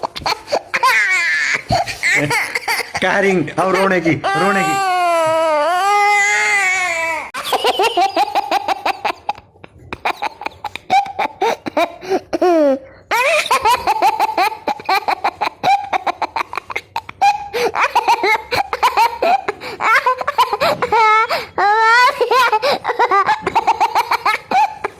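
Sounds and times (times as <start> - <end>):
baby crying: 0.0 - 3.0, 3.8 - 7.8, 10.1 - 24.9
baby giggling and squealing: 0.0 - 3.0, 3.7 - 24.9.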